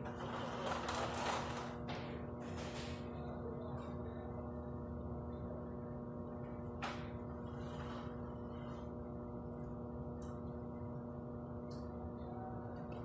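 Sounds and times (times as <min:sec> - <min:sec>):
background hum with held tones: 0:00.0 - 0:13.0.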